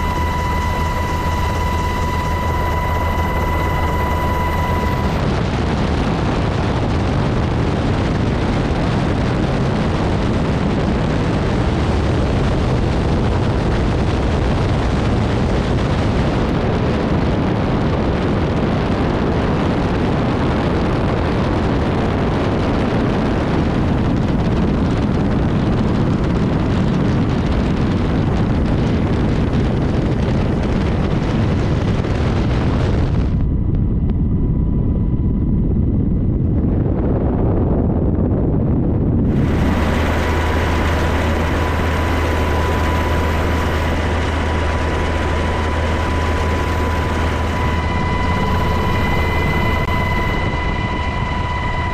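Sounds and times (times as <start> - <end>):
deep roaring rumble: 0.0 - 51.9.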